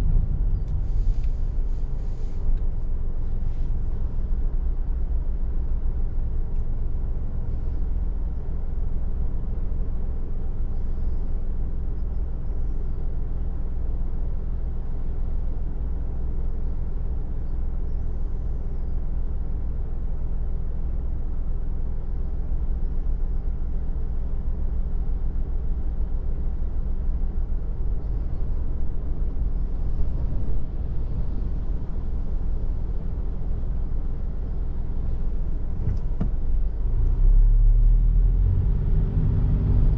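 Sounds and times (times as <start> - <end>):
car road noise and engine: 0.0 - 39.9.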